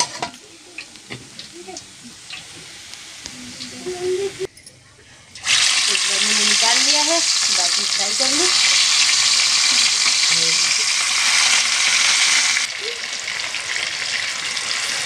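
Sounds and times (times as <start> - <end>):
fish deep-frying in oil: 0.0 - 3.9, 5.4 - 15.0.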